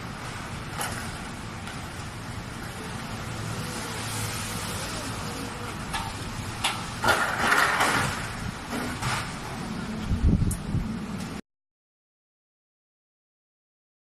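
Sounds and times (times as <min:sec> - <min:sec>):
road traffic hum: 0:00.0 - 0:11.4
rush of noise: 0:00.0 - 0:11.4.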